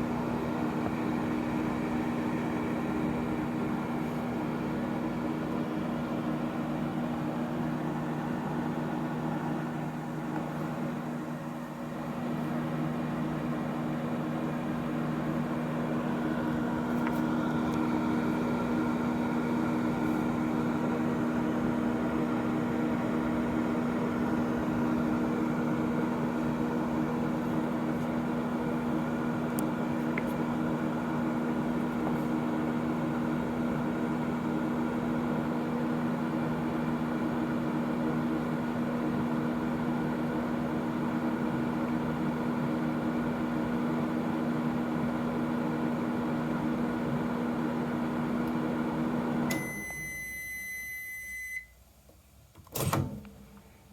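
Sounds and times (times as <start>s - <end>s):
cooling fan whir: 0.0s - 53.9s
microwave oven running: 0.0s - 53.9s.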